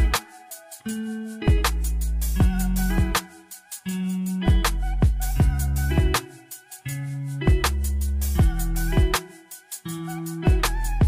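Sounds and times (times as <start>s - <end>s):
music with a beat: 0.0s - 11.0s.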